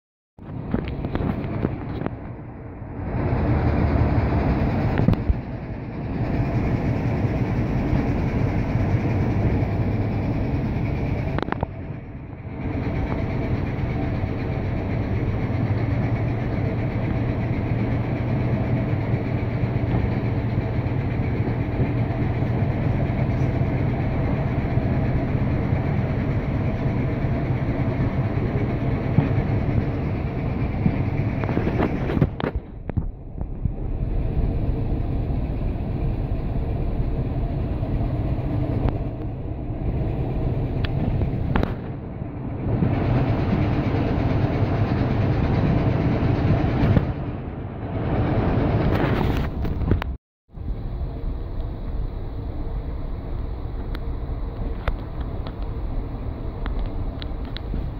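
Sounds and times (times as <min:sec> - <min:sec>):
low engine hum: 0:00.4 - 0:57.9
train wheel and carriage rumble: 0:00.4 - 0:57.9.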